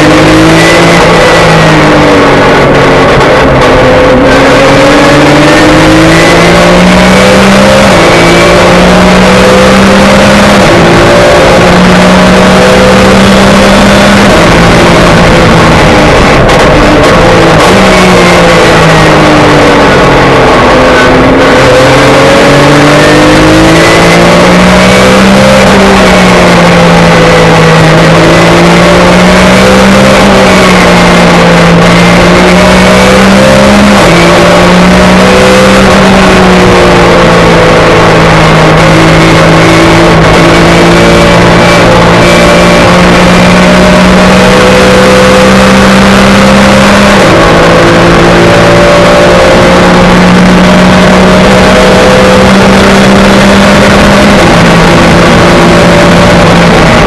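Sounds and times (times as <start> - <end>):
race car engine from cabin: 0.0 - 57.0.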